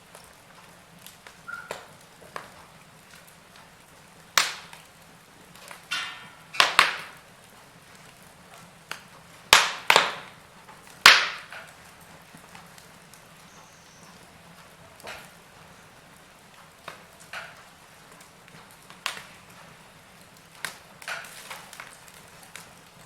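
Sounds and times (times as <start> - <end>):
faint steady hiss: 0.0 - 23.0
wood fire crackling: 0.0 - 23.0.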